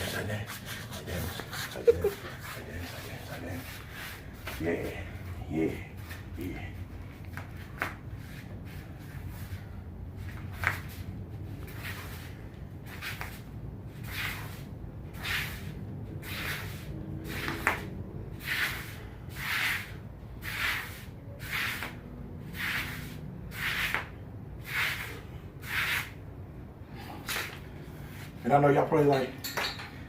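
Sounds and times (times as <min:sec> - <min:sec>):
hissy scuffing strokes: 0:00.0 - 0:26.3, 0:27.2 - 0:28.6
low room rumble: 0:00.0 - 0:30.0.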